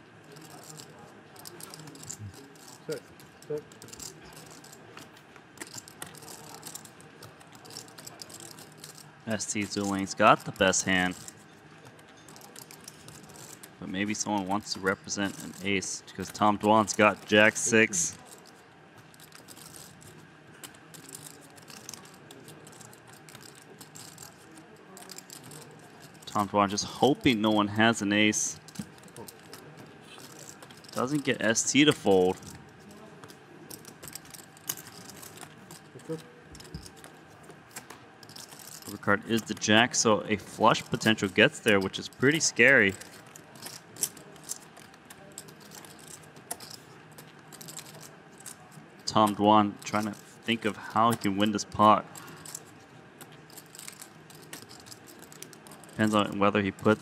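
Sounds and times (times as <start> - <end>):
faint room hum: 0.0 - 57.0
poker chips clicking: 0.2 - 57.0.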